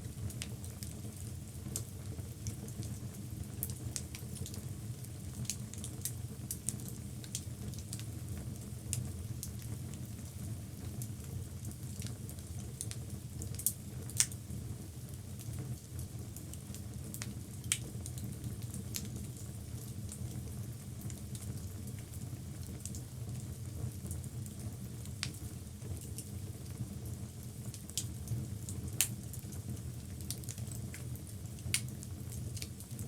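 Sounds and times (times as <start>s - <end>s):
fire crackling and popping: 0.1s - 33.0s.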